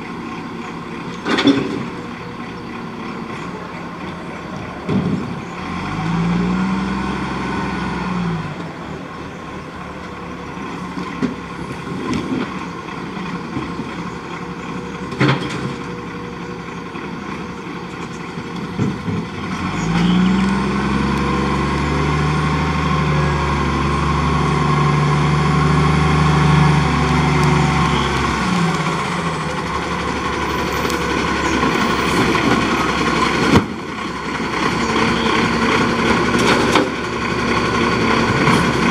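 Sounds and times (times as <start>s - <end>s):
diesel truck engine revving: 0.4s - 38.9s.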